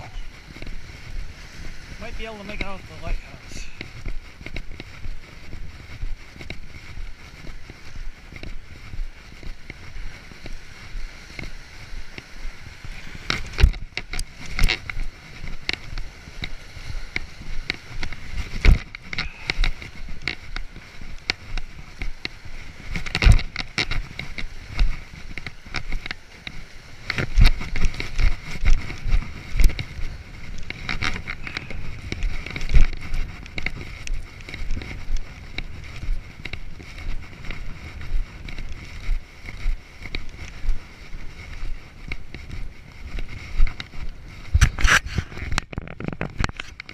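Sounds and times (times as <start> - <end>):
footsteps on concrete: 0.0 - 46.9
wind buffeting microphone: 0.0 - 46.9.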